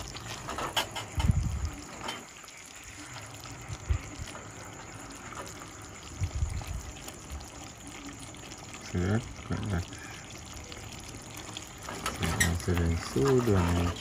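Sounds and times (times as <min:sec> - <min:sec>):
thick gravy bubbling: 0:00.0 - 0:14.0.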